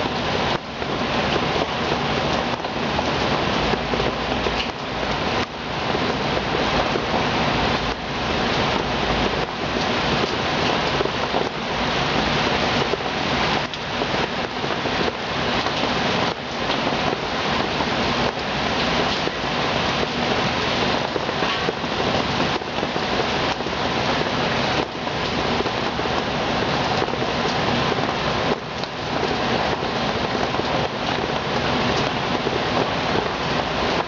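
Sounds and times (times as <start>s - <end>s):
heavy rain and wind: 0.0s - 34.0s.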